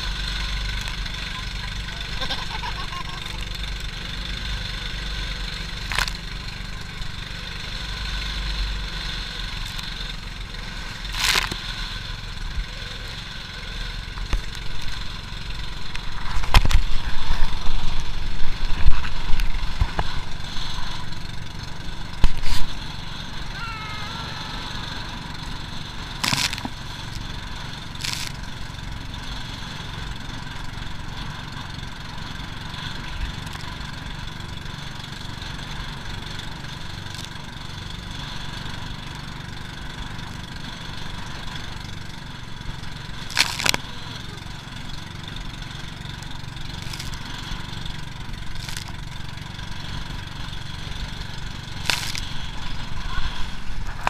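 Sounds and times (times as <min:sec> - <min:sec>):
boat motor running steadily: 0:00.0 - 0:54.0.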